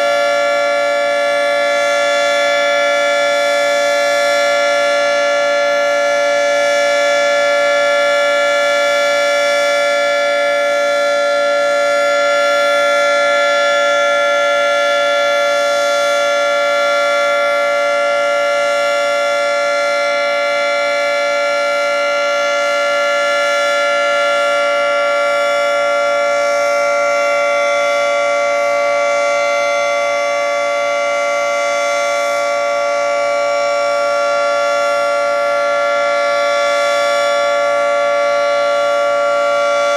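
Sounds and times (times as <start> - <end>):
outdoor warning siren chord: 0.0 - 39.9.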